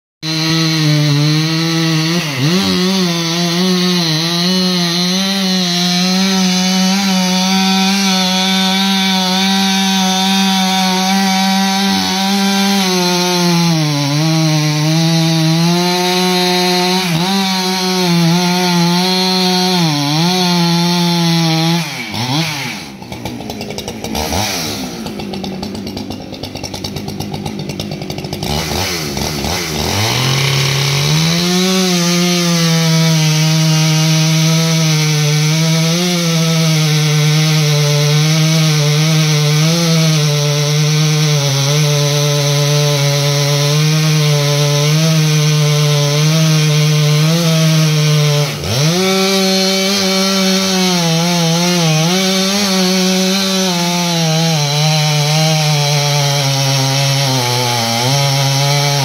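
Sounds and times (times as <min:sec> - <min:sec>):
chainsaw cutting tree trunk: 0:00.2 - 0:59.0.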